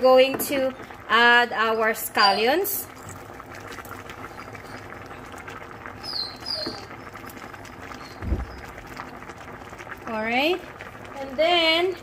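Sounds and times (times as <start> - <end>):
broth bubbling in a wok: 0.0 - 12.0.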